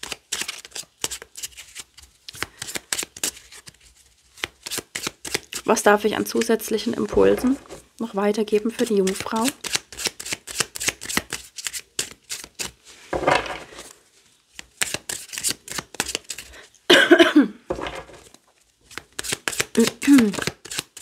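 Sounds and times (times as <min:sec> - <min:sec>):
cards being shuffled: 0:00.0 - 0:16.5, 0:17.8 - 0:21.0.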